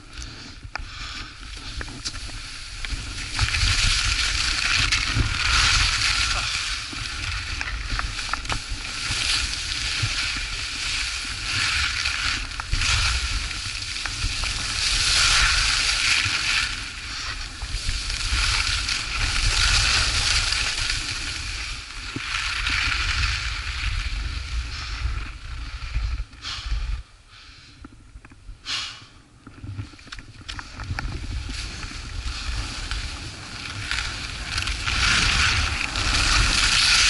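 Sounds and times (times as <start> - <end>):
wind rumble on microphone: 0.0 - 37.0
skis hissing over snow: 0.2 - 27.6, 31.2 - 37.0.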